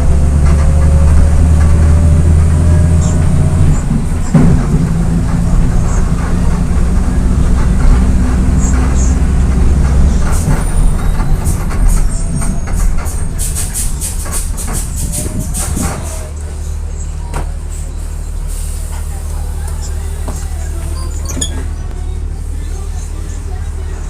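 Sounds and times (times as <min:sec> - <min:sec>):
bus engine droning: 0:00.0 - 0:24.0.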